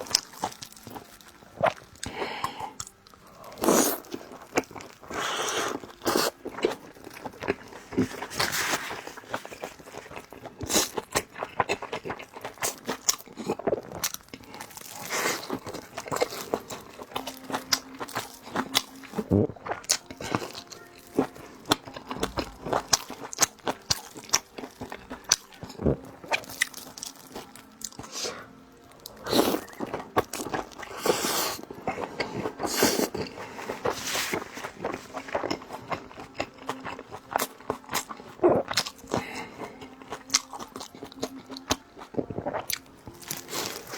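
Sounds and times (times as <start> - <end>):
person chewing dumplings: 0.0 - 43.9.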